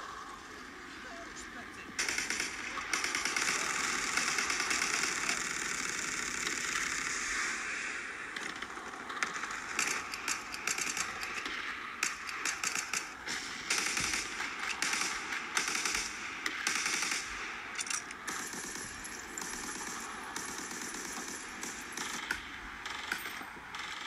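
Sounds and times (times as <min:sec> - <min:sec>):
machine-gun fire: 0:02.0 - 0:24.0.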